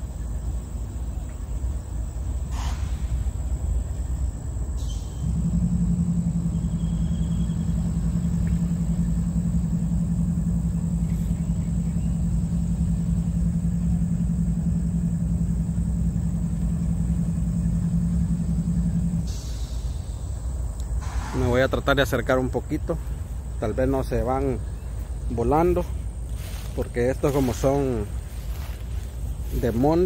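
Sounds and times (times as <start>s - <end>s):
low motor hum: 0.0s - 30.0s
low rumble: 0.0s - 30.0s.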